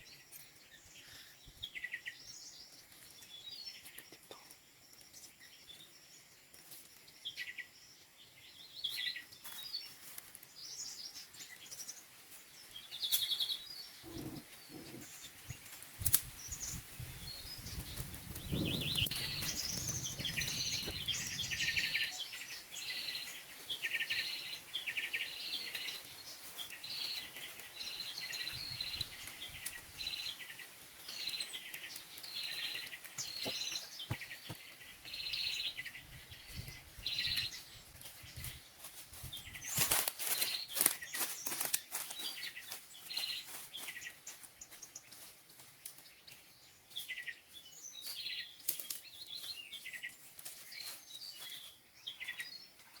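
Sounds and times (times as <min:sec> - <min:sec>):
birds chirping: 0:00.0 - 0:45.2.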